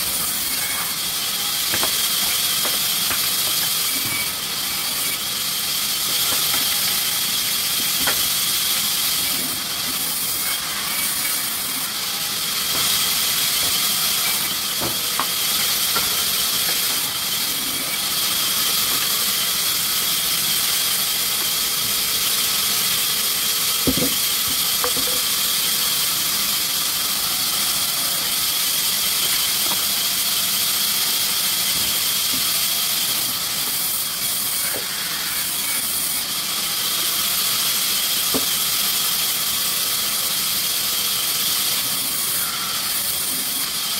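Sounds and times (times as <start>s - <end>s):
sawmill machinery hissing: 0.0s - 43.9s.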